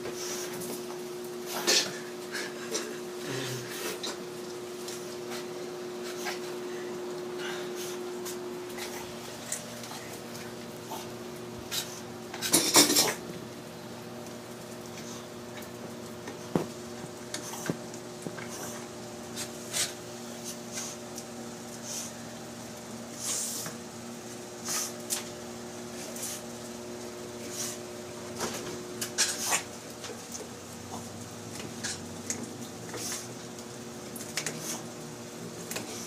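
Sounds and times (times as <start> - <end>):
steady background hum: 0.0 - 36.0.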